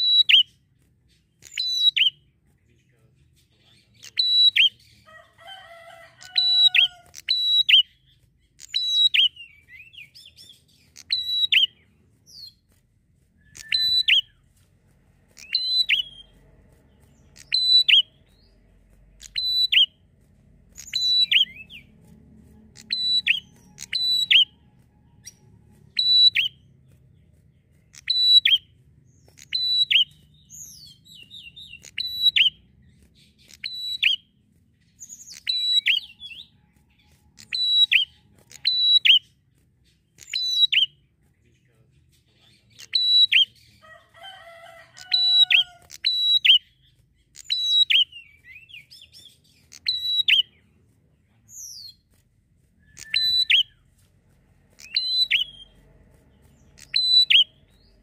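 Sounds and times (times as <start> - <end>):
bird singing sharp calls: 0.0 - 58.0.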